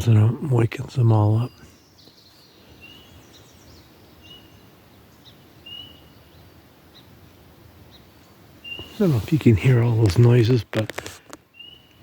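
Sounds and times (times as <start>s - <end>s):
low background hiss: 0.0s - 12.0s
songbirds whistling and chipping: 1.0s - 10.6s, 11.3s - 12.0s.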